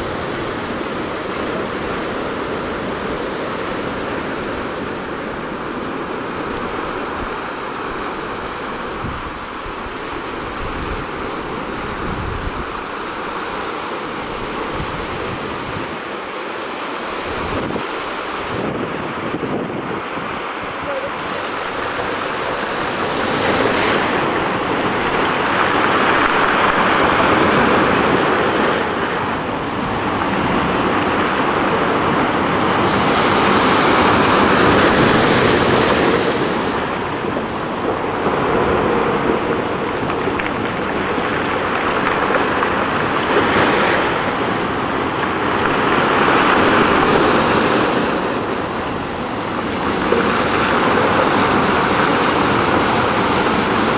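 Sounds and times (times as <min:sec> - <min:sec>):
ocean surf breaking on rocks: 0:00.0 - 0:53.9.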